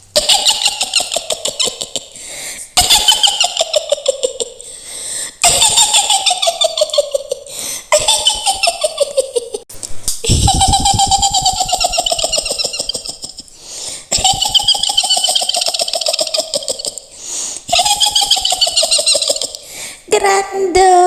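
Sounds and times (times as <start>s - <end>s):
woman's shrill cackling laugh: 0.2s - 2.2s, 2.8s - 4.6s, 5.4s - 9.6s, 10.2s - 17.1s, 17.7s - 19.7s.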